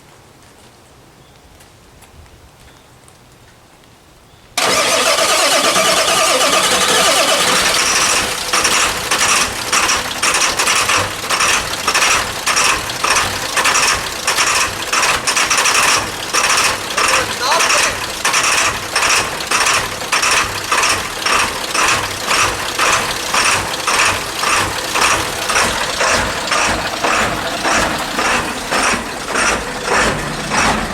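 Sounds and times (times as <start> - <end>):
diesel engine cranking: 4.6 - 30.9.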